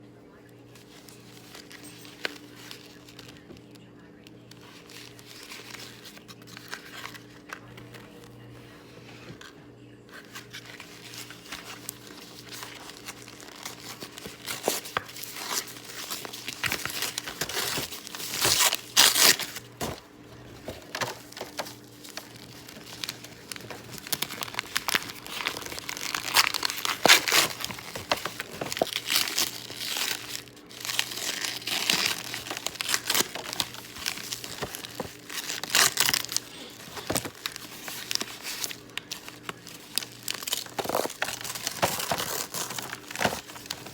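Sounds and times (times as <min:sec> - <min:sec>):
faint steady hum: 0:00.0 - 0:43.9
packaging crinkling and tearing: 0:00.8 - 0:08.4, 0:10.1 - 0:43.9.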